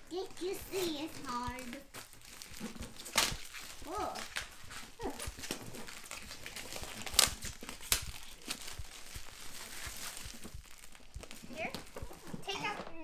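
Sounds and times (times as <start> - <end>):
plastic shrink-wrap crinkling and tearing: 0.0 - 13.0.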